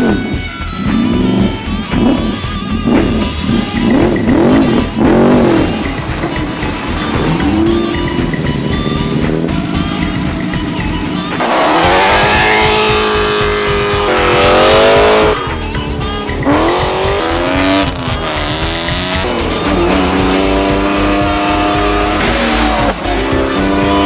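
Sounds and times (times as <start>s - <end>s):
background music with beat: 0.0s - 24.0s
sports car engine revving: 0.0s - 24.0s.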